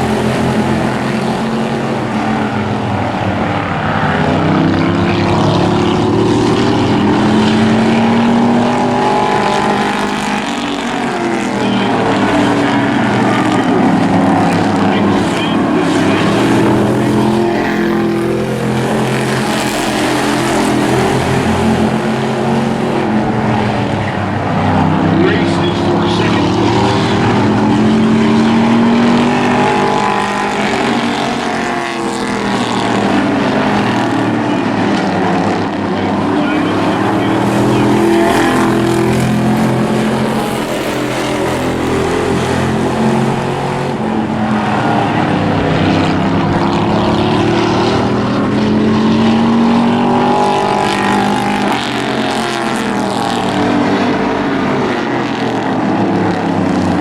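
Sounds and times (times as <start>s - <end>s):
model race truck engines: 0.0s - 57.0s.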